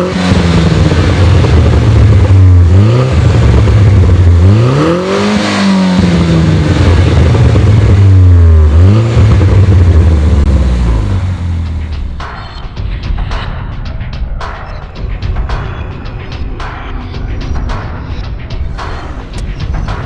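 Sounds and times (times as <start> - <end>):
car engine and exhaust revving: 0.0 - 13.5, 14.4 - 20.0.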